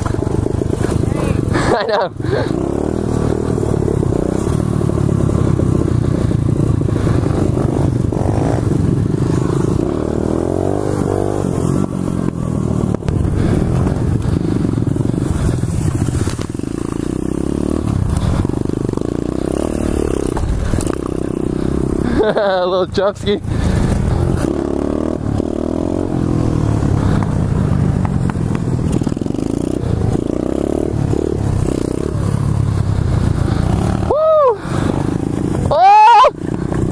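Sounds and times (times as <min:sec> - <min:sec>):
motorbike engine revving: 0:00.0 - 0:36.9.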